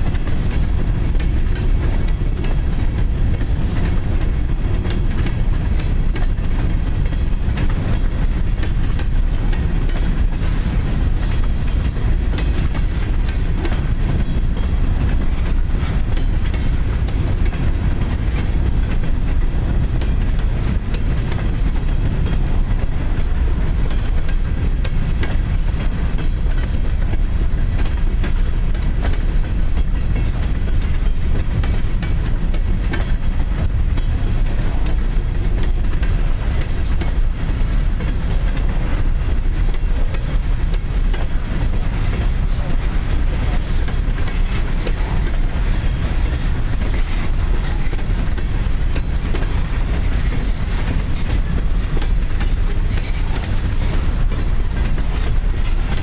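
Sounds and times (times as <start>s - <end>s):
steel train wheels rumbling on rails: 0.0s - 56.0s
wheels clicking and clacking: 0.0s - 56.0s.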